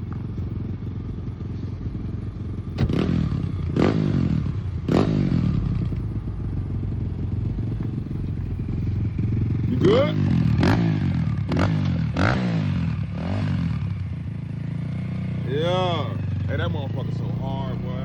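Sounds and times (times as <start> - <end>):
pit bike engine idling and revving: 0.0 - 18.0.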